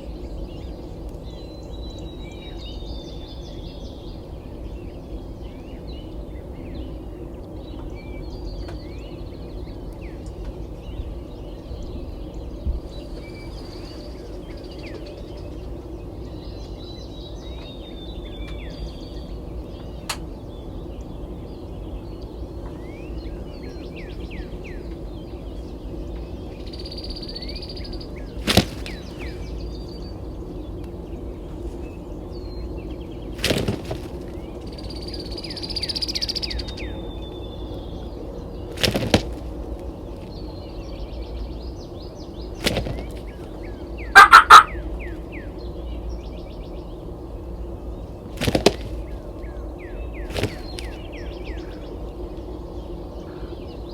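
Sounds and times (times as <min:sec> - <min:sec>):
low background rumble: 0:00.0 - 0:44.1
songbirds chirping and trilling: 0:00.0 - 0:53.9.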